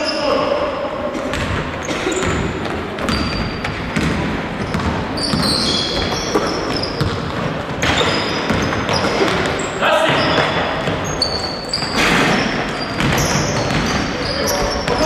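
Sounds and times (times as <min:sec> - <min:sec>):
sneakers squeaking: 0:00.0 - 0:15.0
basketball bouncing on wooden floor: 0:01.3 - 0:15.0.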